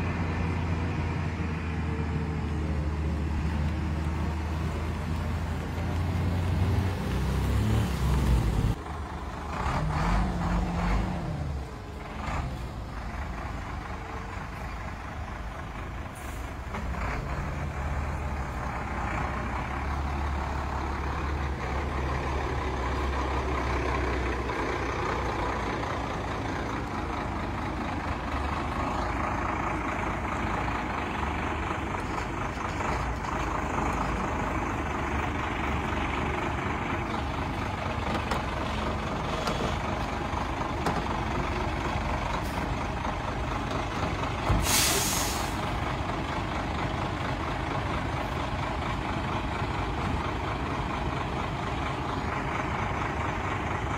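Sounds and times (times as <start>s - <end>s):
truck engine low rumble: 0.0s - 53.9s.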